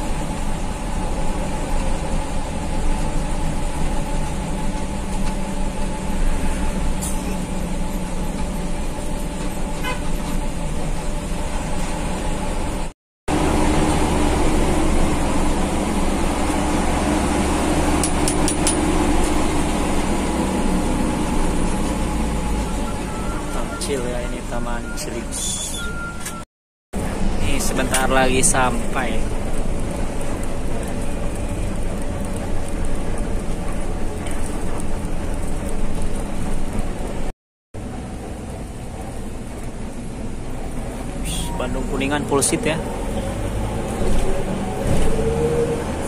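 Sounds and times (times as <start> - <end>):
coach engine hum: 0.0 - 26.4, 27.0 - 46.0
road noise: 0.0 - 46.0.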